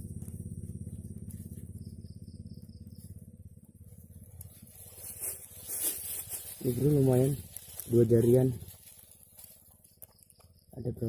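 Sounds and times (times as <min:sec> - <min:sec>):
high insect buzz: 0:00.0 - 0:10.9
insect chirps: 0:00.0 - 0:11.0
low fast pulsing drone: 0:00.0 - 0:11.0.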